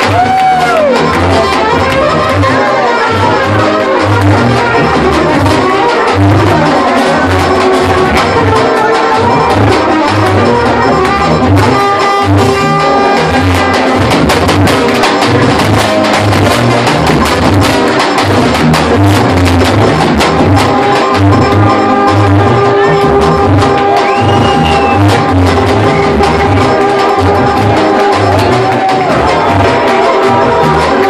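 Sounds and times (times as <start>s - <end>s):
accordion: 0.0s - 31.0s
big bass drum beat: 0.0s - 31.0s
saxophone: 0.0s - 31.0s
trombone: 0.0s - 31.0s
trumpets: 0.0s - 31.0s.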